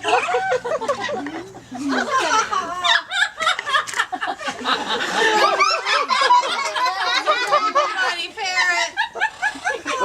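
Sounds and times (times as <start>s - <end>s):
laughter: 0.0s - 10.0s.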